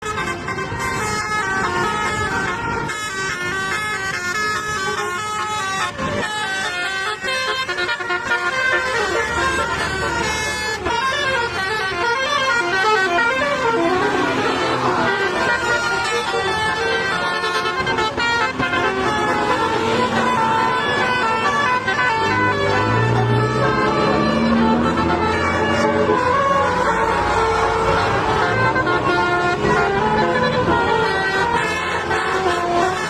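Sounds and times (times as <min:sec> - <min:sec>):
musical air horn playing tune: 0:00.0 - 0:33.0.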